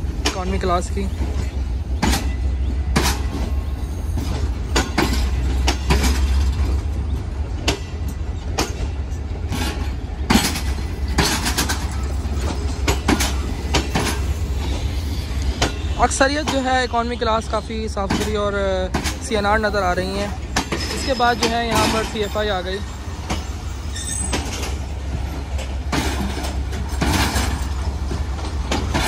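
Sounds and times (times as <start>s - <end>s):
clanks and clicks from wheels: 0.0s - 14.8s, 17.9s - 29.0s
train coaches rumbling on track: 0.0s - 29.0s.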